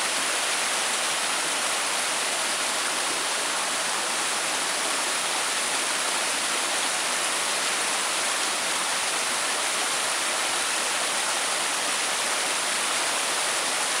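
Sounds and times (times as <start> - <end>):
creek rushing over stones: 0.0 - 14.0.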